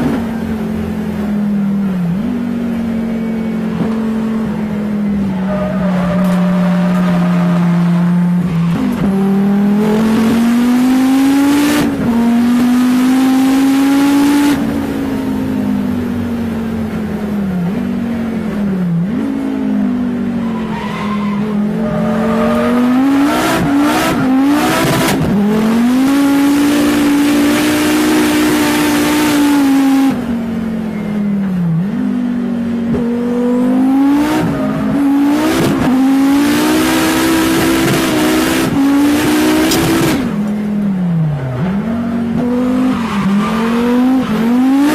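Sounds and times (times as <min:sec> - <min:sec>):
race car engine revving: 0:01.0 - 0:44.9.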